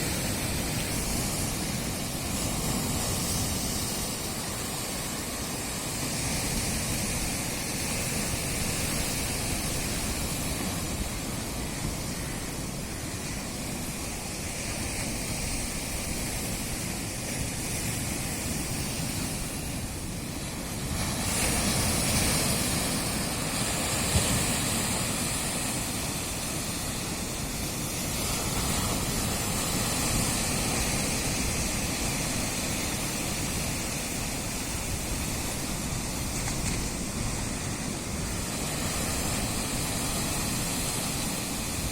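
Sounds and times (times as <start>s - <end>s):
sea waves breaking: 0.0s - 41.9s.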